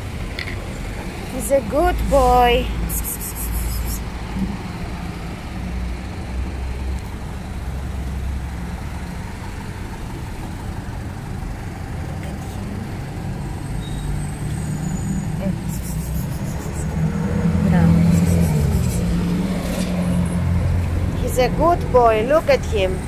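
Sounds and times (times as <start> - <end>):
low rumble of street traffic: 0.0 - 23.0.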